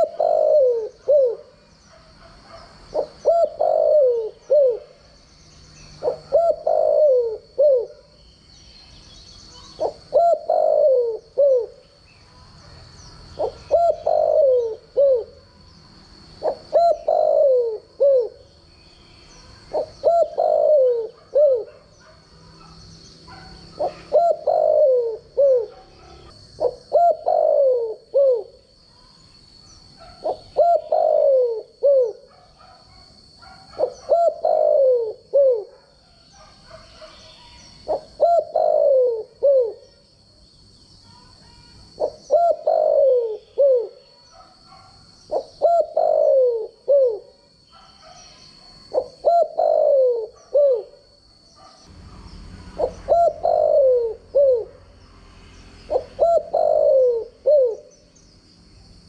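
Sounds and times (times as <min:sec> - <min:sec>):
dove cooing: 0:00.0 - 0:05.1, 0:05.8 - 0:08.2, 0:09.5 - 0:11.9, 0:13.4 - 0:15.6, 0:16.4 - 0:18.5, 0:19.4 - 0:28.7, 0:30.0 - 0:40.0, 0:41.4 - 0:54.9, 0:55.8 - 0:58.0.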